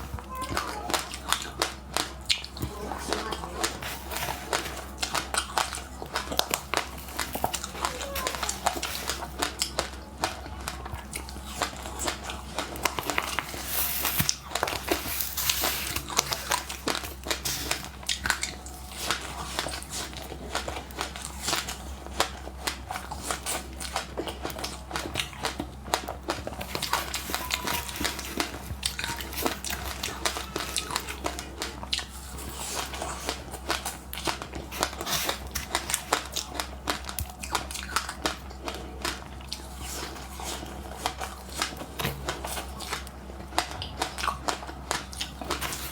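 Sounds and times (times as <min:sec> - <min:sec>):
chewing crunchy seeds: 0:00.0 - 0:45.9.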